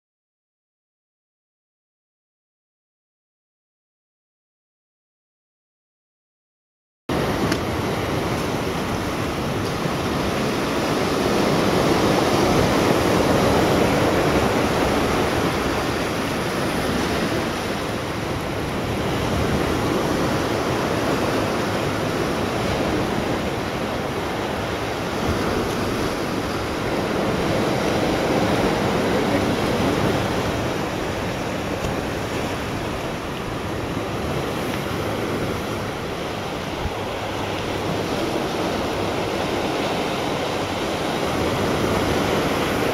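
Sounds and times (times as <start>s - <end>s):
sea surf washing on shore: 7.1s - 42.9s.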